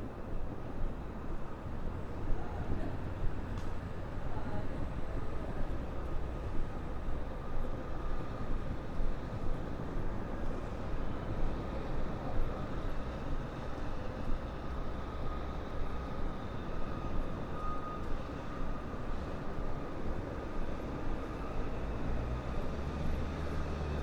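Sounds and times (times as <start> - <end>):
city traffic rumble: 0.0 - 24.0.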